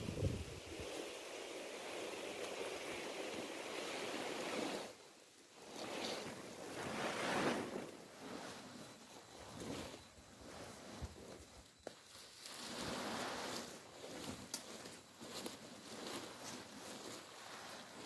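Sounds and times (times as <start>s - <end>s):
tarpaulin dragged across grass: 0.0s - 18.0s.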